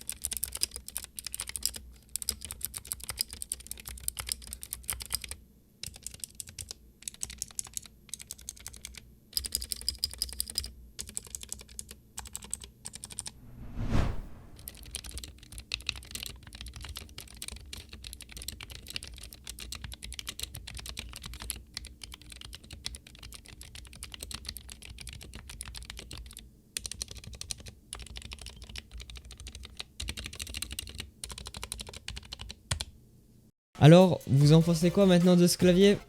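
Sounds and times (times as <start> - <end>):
mechanical keyboard typing: 0.0 - 13.2, 14.8 - 32.9.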